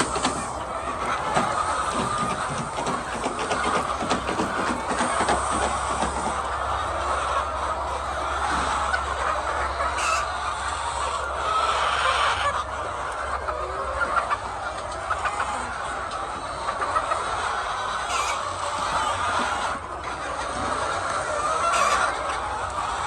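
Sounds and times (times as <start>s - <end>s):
hens clucking: 0.0s - 23.0s.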